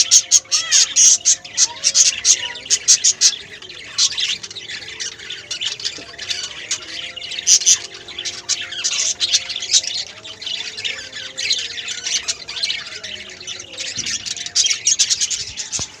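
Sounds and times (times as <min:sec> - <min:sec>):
lovebirds squawking and chirping: 0:00.0 - 0:16.0.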